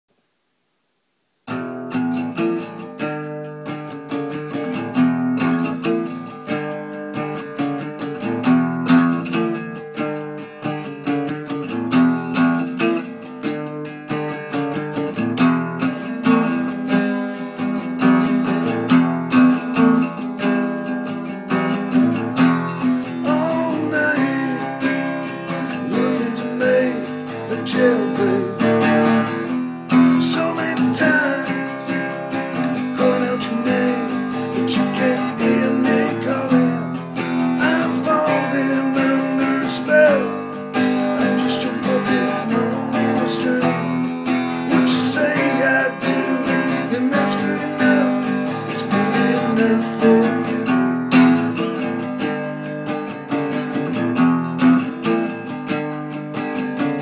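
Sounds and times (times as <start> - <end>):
strummed acoustic guitar: 1.4 - 57.0.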